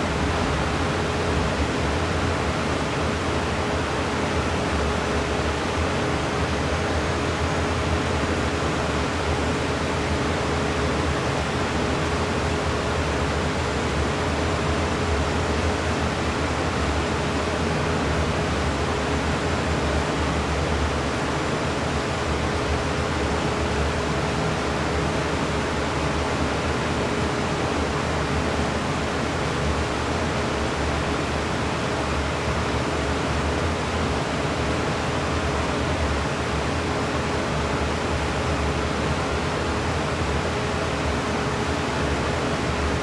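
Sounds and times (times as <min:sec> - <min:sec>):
constant fan hum: 0:00.0 - 0:43.0.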